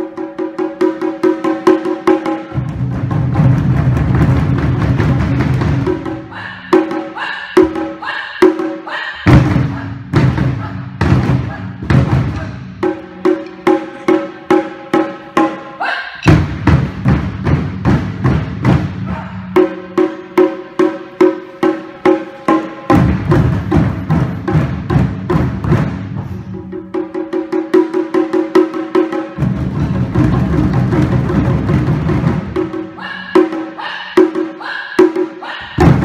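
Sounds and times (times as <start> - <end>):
group taiko drumming: 0.0 - 36.0.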